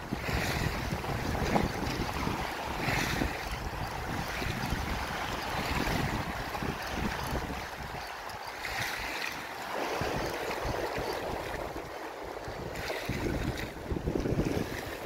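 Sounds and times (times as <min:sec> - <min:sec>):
small waves lapping: 0:00.0 - 0:15.0
wind buffeting microphone: 0:00.0 - 0:15.0.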